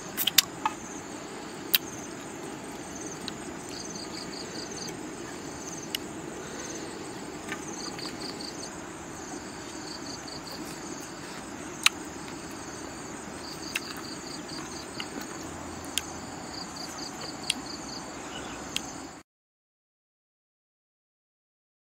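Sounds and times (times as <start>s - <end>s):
insects chirping in trills: 0.0s - 19.2s
low background noise: 0.0s - 19.2s.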